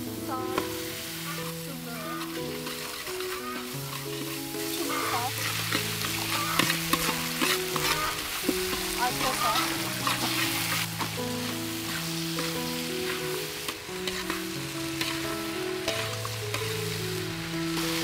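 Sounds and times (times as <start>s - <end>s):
paste sizzling in a wok: 0.0s - 18.0s
spatula scraping metal wok: 0.4s - 18.0s.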